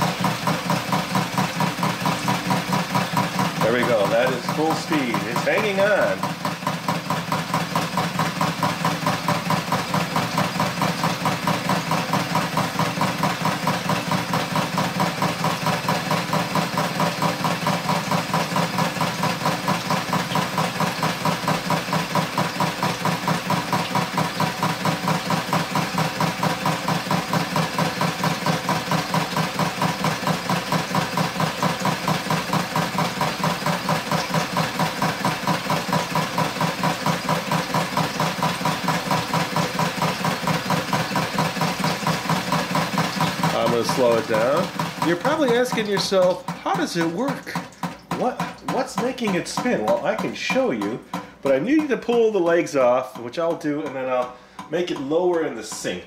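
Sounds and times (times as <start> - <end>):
toy dishwasher water jets spraying: 0.0 - 56.0.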